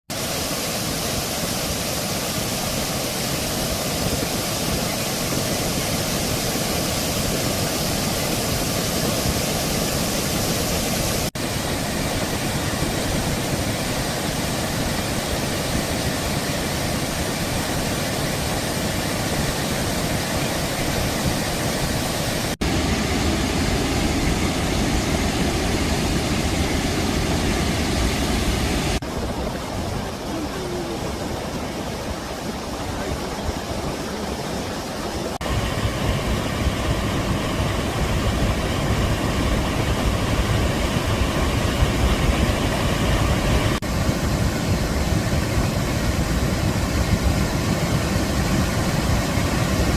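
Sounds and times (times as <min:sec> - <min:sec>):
water rushing over cascades: 0:00.1 - 0:49.9
deep water rumble: 0:02.4 - 0:49.9.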